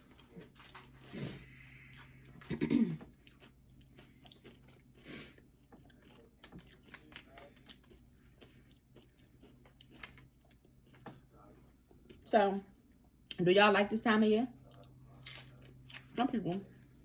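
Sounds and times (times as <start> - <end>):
chewing crunchy chips: 0.0 - 11.4, 14.6 - 17.0.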